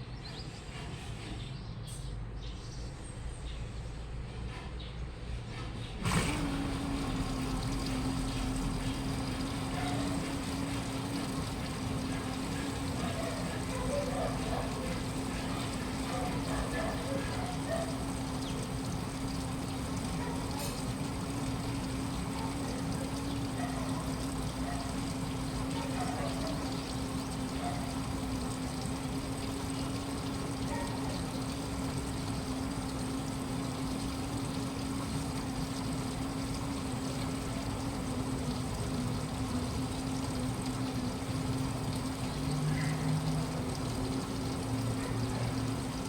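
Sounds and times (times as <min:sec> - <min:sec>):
washing machine motor hum: 0:03.7 - 0:46.0
water moving in drum: 0:05.5 - 0:46.0.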